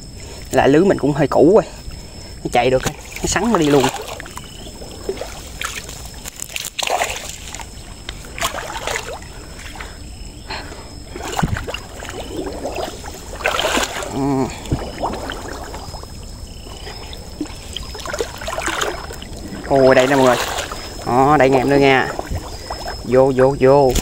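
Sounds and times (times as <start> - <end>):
water sloshing and splashing: 0.0 - 24.0
water trickling and dripping: 1.7 - 24.0.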